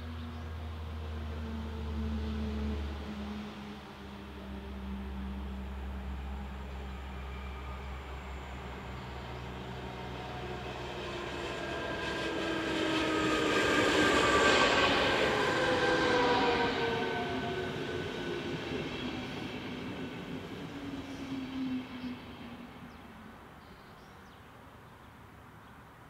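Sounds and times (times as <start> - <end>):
electric train passing: 0.6 - 23.6.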